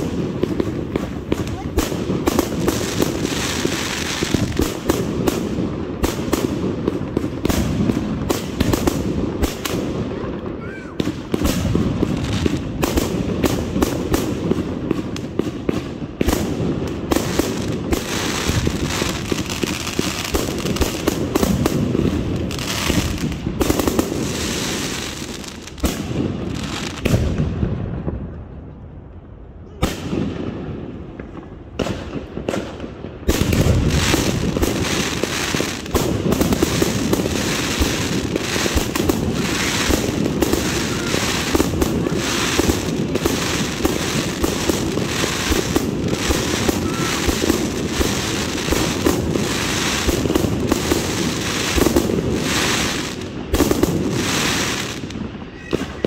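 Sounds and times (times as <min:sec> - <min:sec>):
fireworks launching and bursting: 0:00.0 - 0:28.8, 0:29.7 - 0:56.0.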